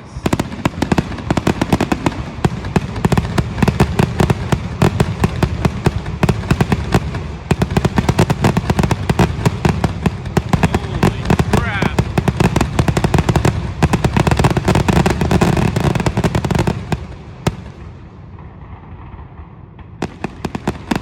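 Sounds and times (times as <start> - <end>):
continuous low rumble: 0.0 - 20.9
fireworks bangs and crackles: 0.0 - 21.0.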